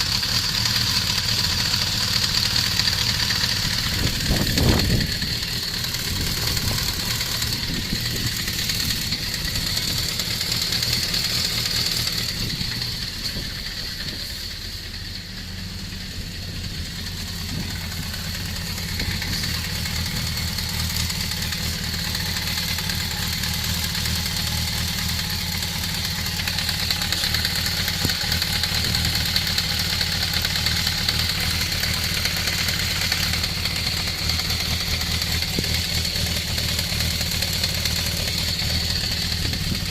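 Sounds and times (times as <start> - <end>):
engine knock: 0.0 - 39.9
motorcycle engine idling: 0.0 - 39.9.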